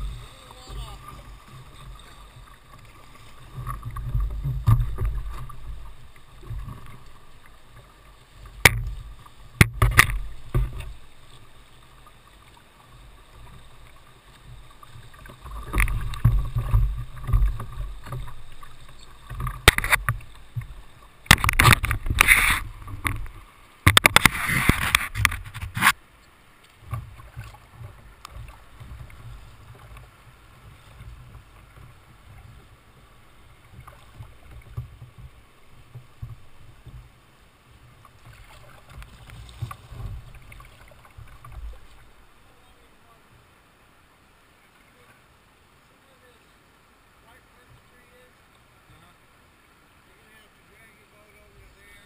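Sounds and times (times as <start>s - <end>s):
whitewater rushing against kayak: 0.0s - 52.0s.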